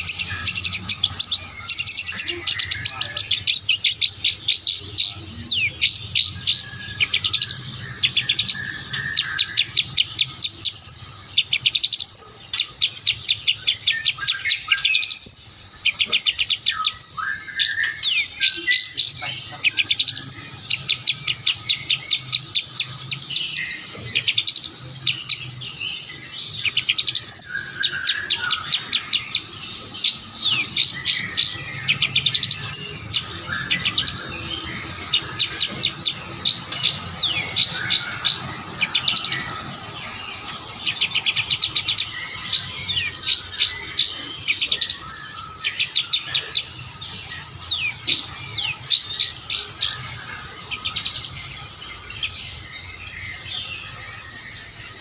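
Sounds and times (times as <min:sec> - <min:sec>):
bird chattering song: 0:00.0 - 0:55.0.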